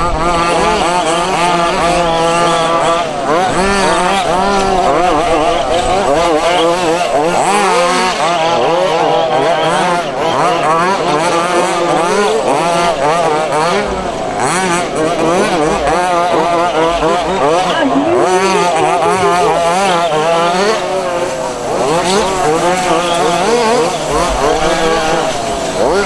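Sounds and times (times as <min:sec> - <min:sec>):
rc buggy engines revving: 0:00.0 - 0:26.0.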